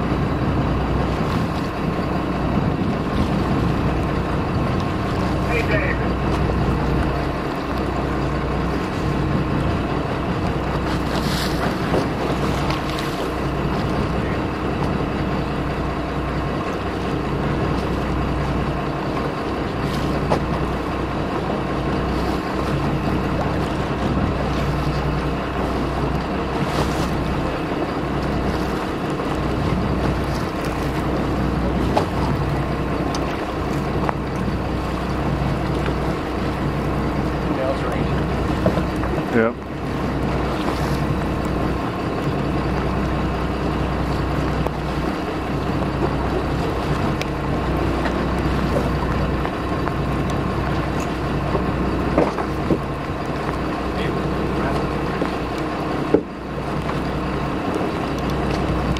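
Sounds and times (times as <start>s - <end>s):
boat engine running: 0.0s - 58.9s
wind and water noise: 0.0s - 58.9s
wind buffeting microphone: 0.0s - 58.9s.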